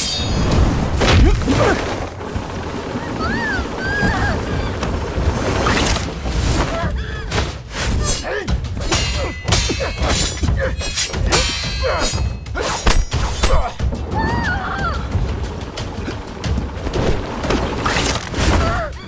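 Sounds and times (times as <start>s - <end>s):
dramatic score music: 0.1s - 19.0s.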